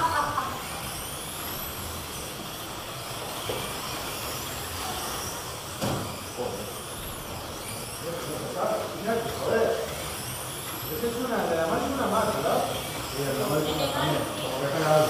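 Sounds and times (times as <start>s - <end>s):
slot car motors whining: 0.0s - 15.0s.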